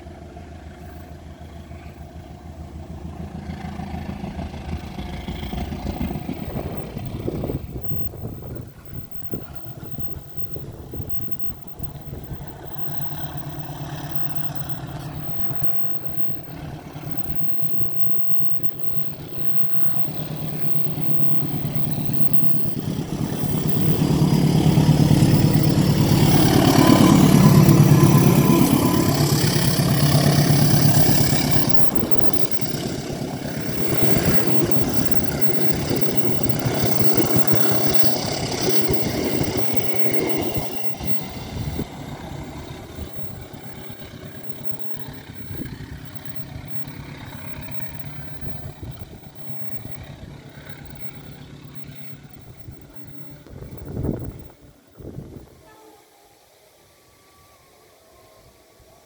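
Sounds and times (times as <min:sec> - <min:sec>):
train rumble: 0:00.0 - 0:55.8
diesel locomotive passing: 0:00.0 - 0:59.0.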